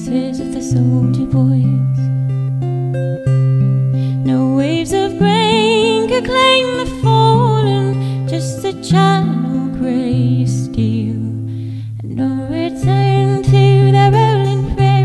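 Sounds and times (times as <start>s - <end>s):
woman singing folk song: 0.0s - 2.4s, 3.9s - 15.0s
acoustic guitar: 0.0s - 15.0s.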